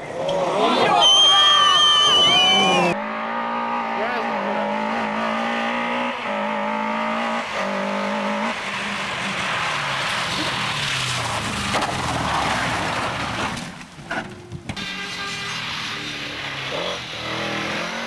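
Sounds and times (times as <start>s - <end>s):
rally car engine revving: 0.0s - 14.9s, 15.7s - 18.0s.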